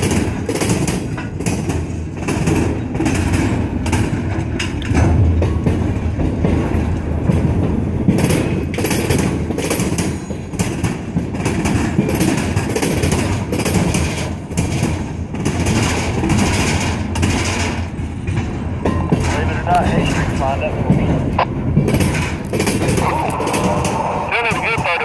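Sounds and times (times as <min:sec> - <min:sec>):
wheels clacking over rail joints: 0:00.0 - 0:24.9
train wheels rumbling: 0:00.0 - 0:25.0.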